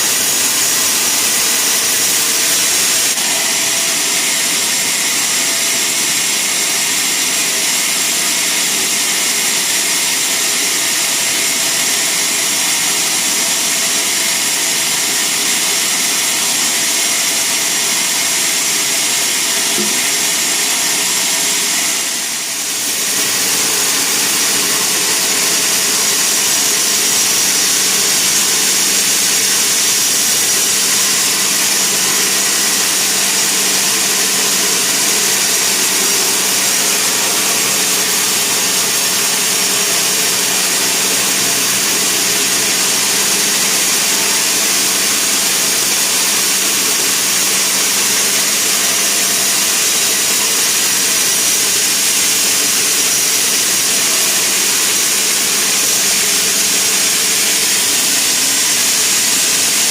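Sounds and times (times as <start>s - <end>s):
sawmill saw cutting wood: 0.0s - 59.9s.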